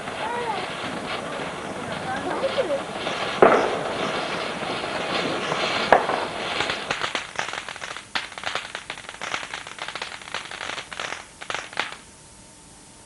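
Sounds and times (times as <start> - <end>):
firework crackling and popping: 0.0 - 12.4.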